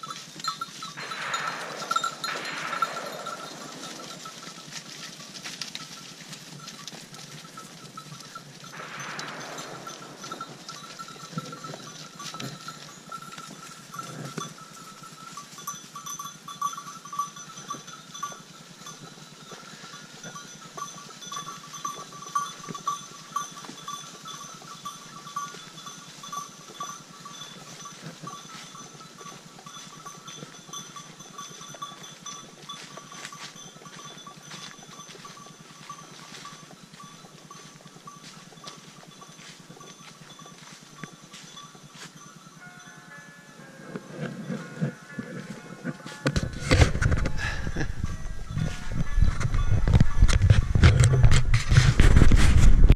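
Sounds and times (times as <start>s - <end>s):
sheep bells ringing: 0.0s - 52.1s
hooves crunching in dry leaves: 0.0s - 52.9s.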